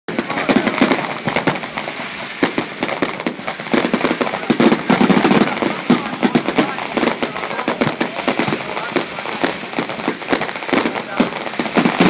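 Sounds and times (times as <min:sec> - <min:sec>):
fireworks cracking and popping: 0:00.1 - 0:12.0.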